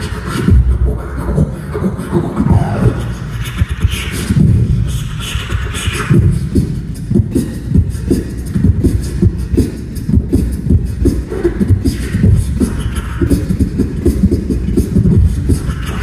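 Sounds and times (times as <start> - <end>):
amplified beatboxing: 0.0 - 16.0.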